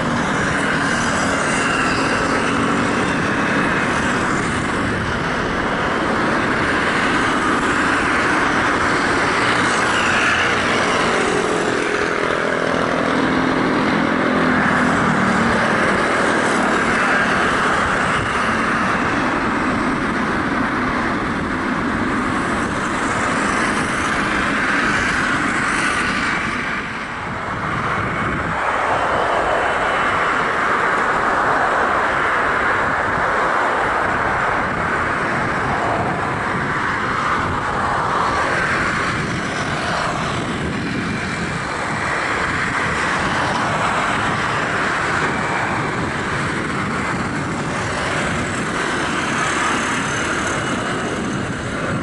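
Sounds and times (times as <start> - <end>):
jet engines hissing and whining: 0.0 - 52.0.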